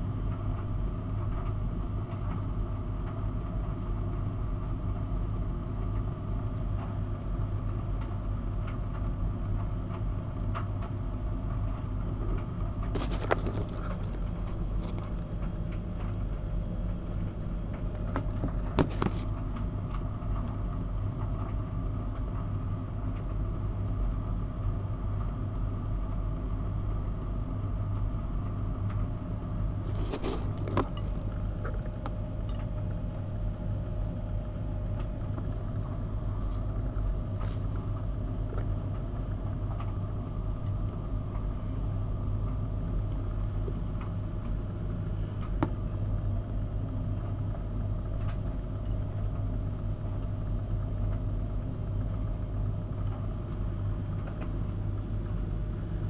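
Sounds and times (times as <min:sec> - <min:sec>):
washing machine tumbling laundry: 0:00.0 - 0:56.0.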